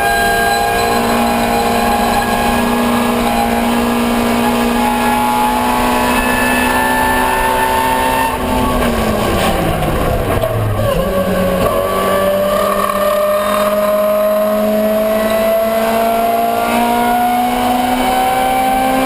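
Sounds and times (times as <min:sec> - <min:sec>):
race car engine at high revs: 0:00.0 - 0:19.0.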